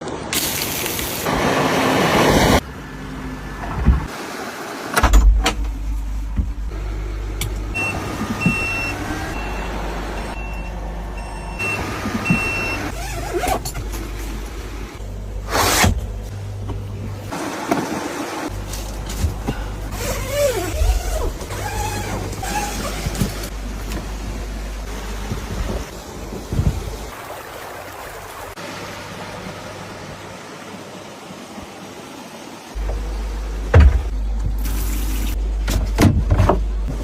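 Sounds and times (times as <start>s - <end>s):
vehicle engine humming: 1.3s - 27.2s, 28.6s - 37.0s.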